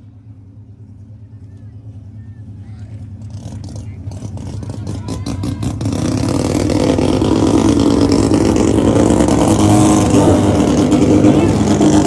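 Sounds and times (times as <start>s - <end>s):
drag car engine running loud: 0.0s - 12.0s
rapid engine popping: 0.2s - 12.0s.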